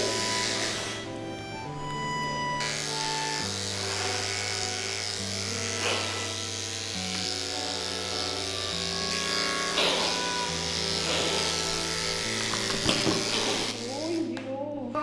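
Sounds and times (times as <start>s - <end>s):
electric clippers buzzing: 0.0s - 14.3s.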